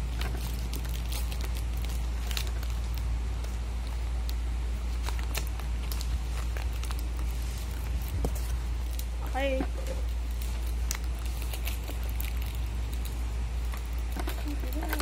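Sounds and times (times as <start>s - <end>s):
paper and tape crinkling: 0.0s - 15.0s
steady low hum: 0.0s - 15.0s.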